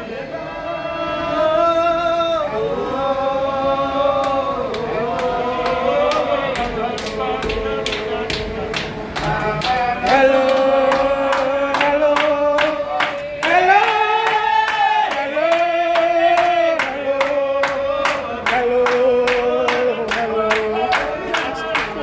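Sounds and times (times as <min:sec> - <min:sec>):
group singing a hymn: 0:00.0 - 0:22.0
clapped beat: 0:04.2 - 0:22.0.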